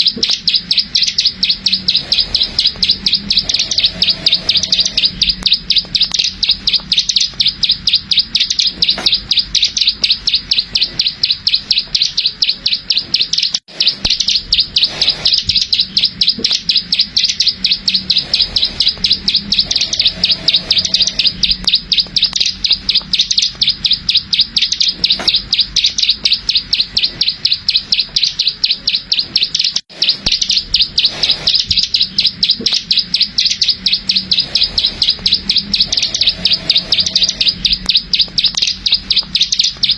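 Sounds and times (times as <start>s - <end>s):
bird singing high clicking notes: 0.0s - 39.9s.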